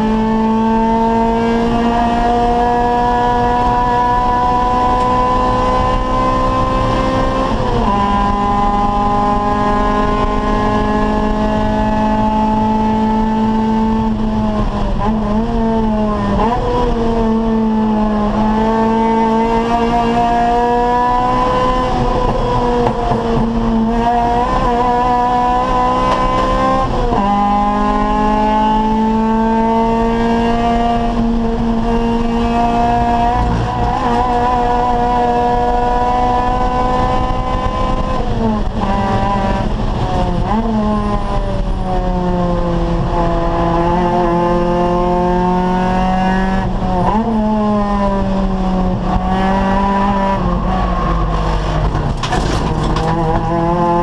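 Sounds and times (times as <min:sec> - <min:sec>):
race car engine at high revs: 0:00.0 - 0:54.0.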